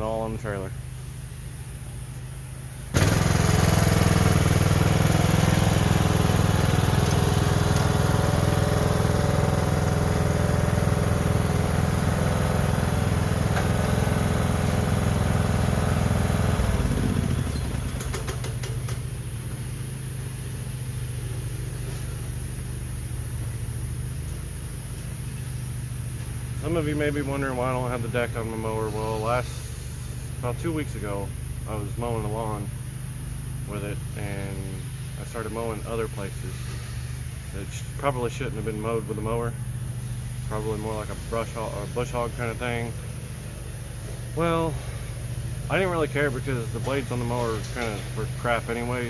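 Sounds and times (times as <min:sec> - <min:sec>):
riding lawn mower engine: 0:00.0 - 0:49.0.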